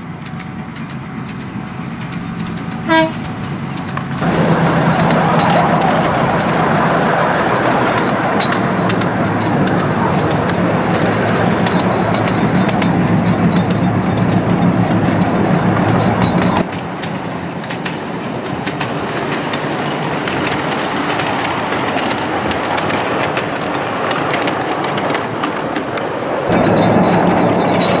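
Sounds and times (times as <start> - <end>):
goods wagon rumbling past: 0.0 - 28.0
miniature train wheels clicking: 0.0 - 28.0.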